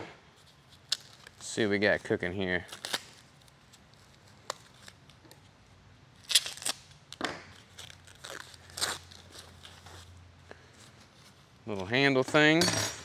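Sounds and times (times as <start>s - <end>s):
packing wrap crinkling: 0.4s - 5.4s, 6.2s - 11.5s.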